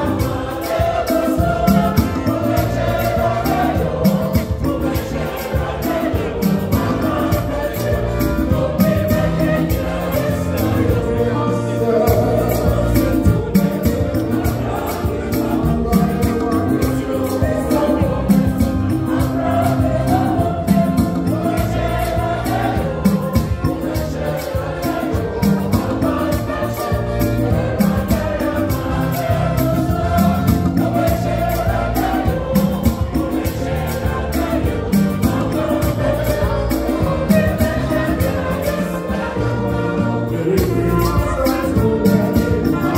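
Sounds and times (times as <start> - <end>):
choir singing gospel in harmony: 0.0 - 42.9.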